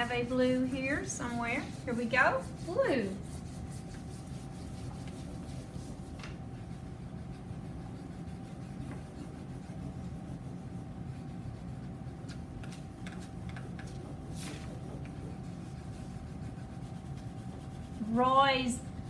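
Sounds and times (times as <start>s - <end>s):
crayon scratching on paper: 0.0s - 19.0s
steady low hum: 0.0s - 19.0s.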